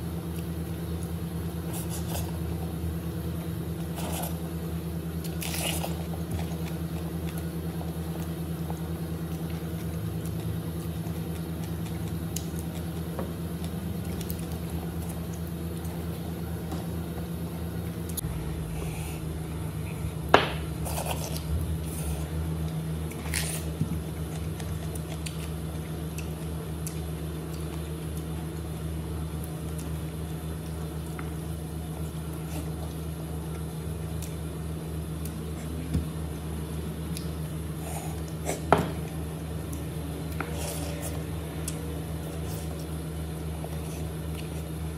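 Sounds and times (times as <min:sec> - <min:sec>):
low hum: 0:00.0 - 0:44.9.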